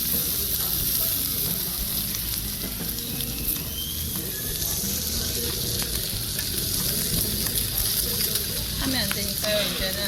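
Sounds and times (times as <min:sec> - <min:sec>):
fire crackles: 0:00.0 - 0:10.0
meat sizzling on a grill: 0:00.0 - 0:10.0.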